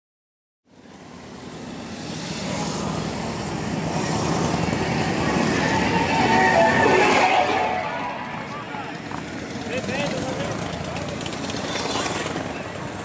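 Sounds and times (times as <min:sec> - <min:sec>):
motorcycles riding past: 0:00.8 - 0:13.0.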